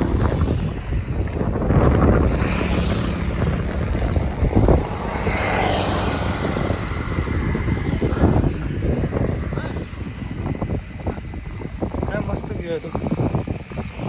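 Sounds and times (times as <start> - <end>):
vehicle passing on road: 0.0 - 14.0.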